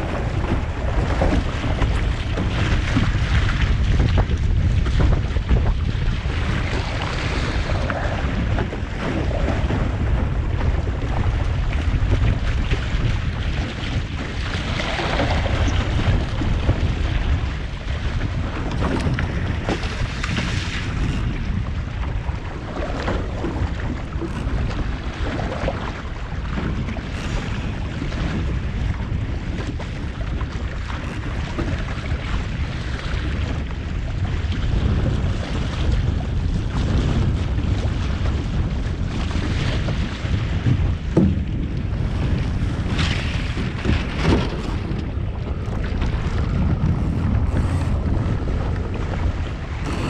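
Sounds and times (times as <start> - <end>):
water rushing along a hull: 0.0 - 50.0
wind buffeting microphone: 0.0 - 50.0.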